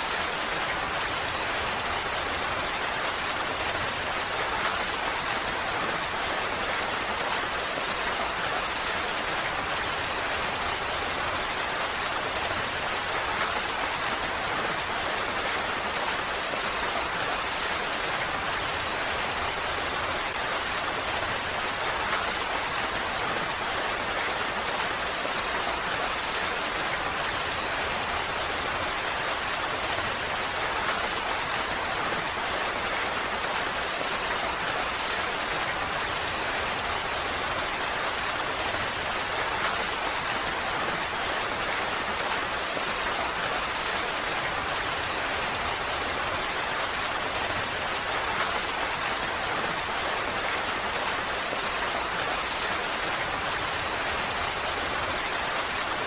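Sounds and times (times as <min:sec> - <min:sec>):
individual raindrops: 0:00.0 - 0:56.0
steady rain falling: 0:00.0 - 0:56.0.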